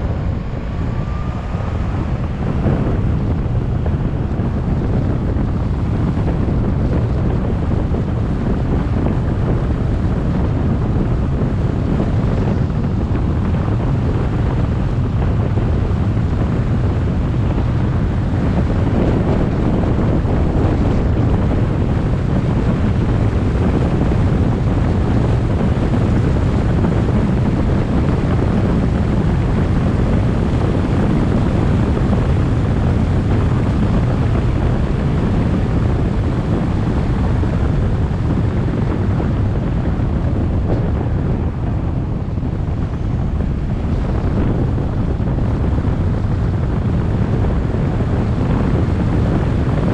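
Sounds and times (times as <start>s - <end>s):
road noise from moving vehicle: 0.0s - 49.9s
wind buffeting microphone: 0.0s - 49.9s.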